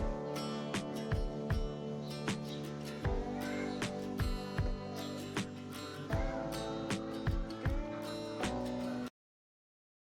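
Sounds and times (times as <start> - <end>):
background music with steady beat: 0.0 - 9.1.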